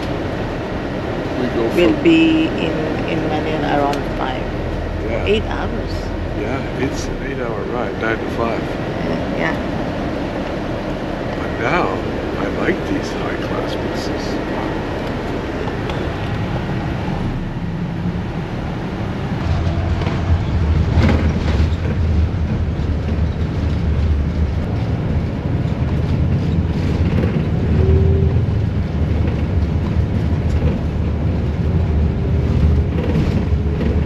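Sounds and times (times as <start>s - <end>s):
bus engine and road noise: 0.0s - 34.0s.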